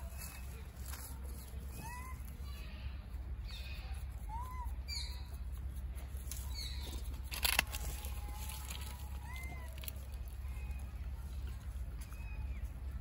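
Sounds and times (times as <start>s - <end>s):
small animals squeaking: 1.4s - 13.0s.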